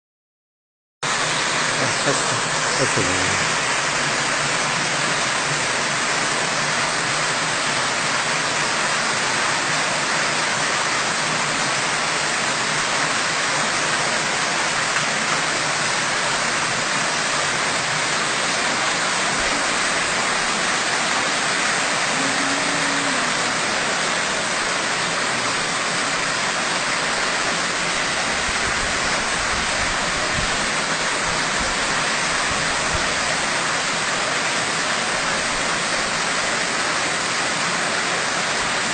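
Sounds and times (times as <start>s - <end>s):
fountain water splashing: 1.0s - 38.9s.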